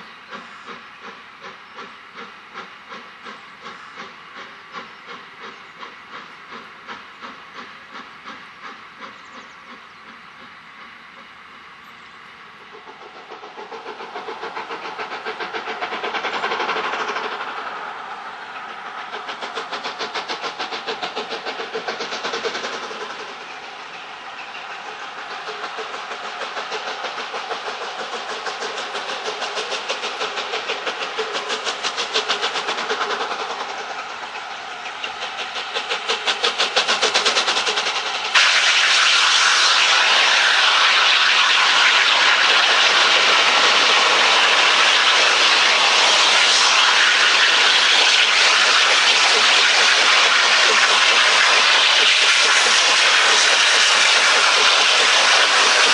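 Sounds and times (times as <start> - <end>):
steam train pulsing rhythm: 0.0 - 55.9.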